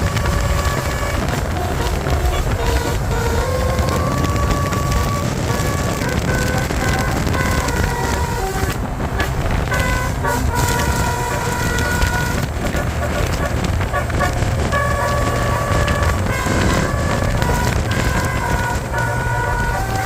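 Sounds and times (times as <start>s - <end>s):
bus engine low rumble: 0.0s - 20.0s
multi-tone musical bus horn: 0.0s - 20.0s.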